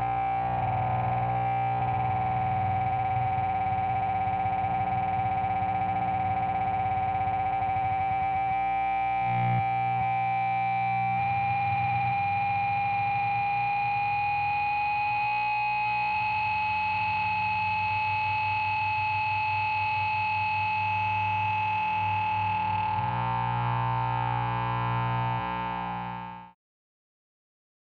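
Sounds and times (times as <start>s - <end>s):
amplifier feedback howl: 0.0s - 26.5s
low amp hum: 0.0s - 26.6s.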